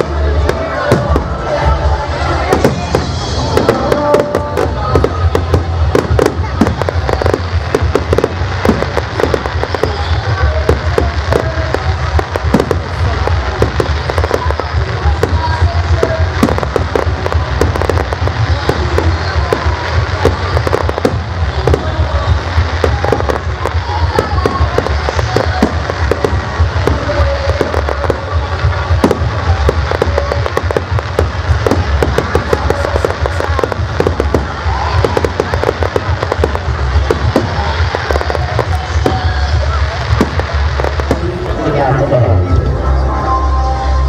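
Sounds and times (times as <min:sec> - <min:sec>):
fireworks bangs and crackles: 0:00.0 - 0:42.8
heavy low rumble: 0:00.0 - 0:44.0.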